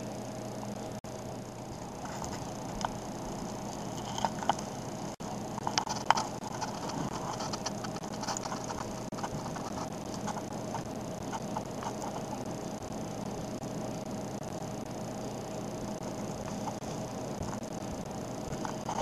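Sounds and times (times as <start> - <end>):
small mechanism whining: 0.0 - 19.0.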